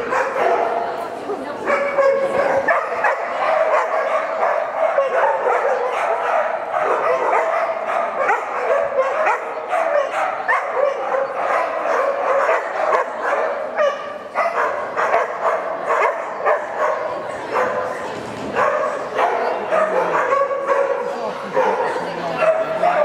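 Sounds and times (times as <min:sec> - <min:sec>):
dog barking: 0:00.0 - 0:01.0, 0:01.6 - 0:23.0.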